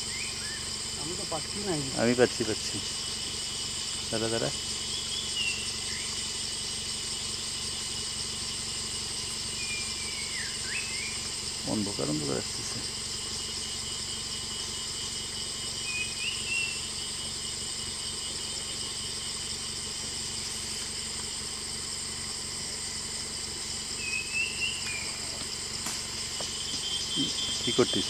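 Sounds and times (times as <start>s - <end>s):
chorus of forest insects: 0.0s - 28.0s.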